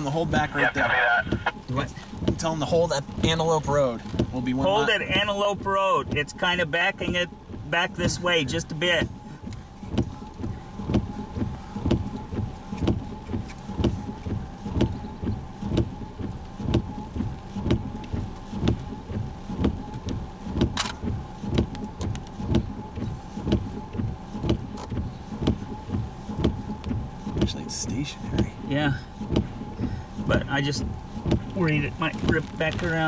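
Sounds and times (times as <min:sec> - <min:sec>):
steady whine: 0:00.0 - 0:33.0
regular ticking or knocking: 0:01.2 - 0:33.0.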